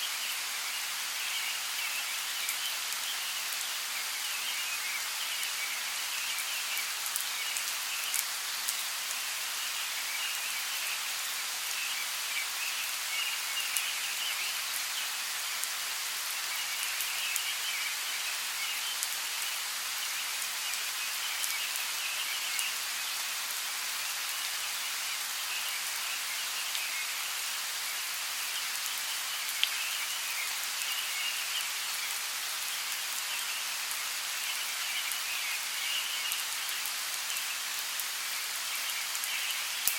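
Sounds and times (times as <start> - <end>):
rain drops: 0.0 - 39.9
steady rainfall: 0.0 - 39.9.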